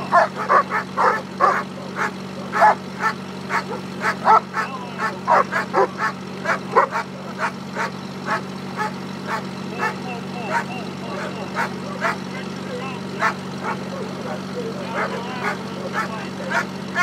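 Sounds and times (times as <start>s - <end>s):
dog barking hard and fast: 0.0s - 12.3s, 13.2s - 14.0s, 14.8s - 17.0s
steady low hum: 0.0s - 17.0s.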